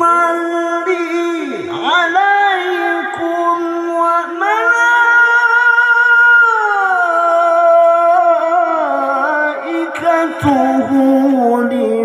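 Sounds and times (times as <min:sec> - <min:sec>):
man chanting amplified recitation: 0:00.0 - 0:12.0.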